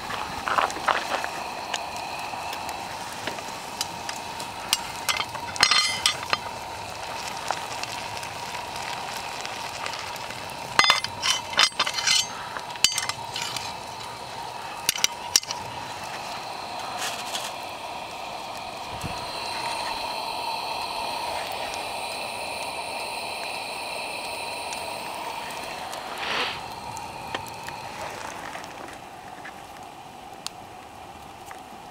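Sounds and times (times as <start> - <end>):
bonfire crackling: 0.0 - 31.9.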